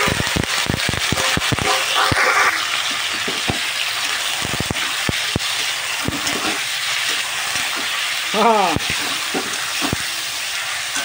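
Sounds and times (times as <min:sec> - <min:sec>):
chicken sizzling in oil: 0:00.0 - 0:11.0
oil spitting and crackling: 0:00.0 - 0:11.0.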